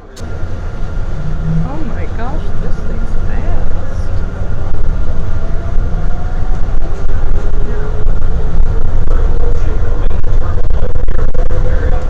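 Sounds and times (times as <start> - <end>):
faint whine sliding in pitch: 0.0 - 12.0
train rumbling at speed: 0.0 - 12.0.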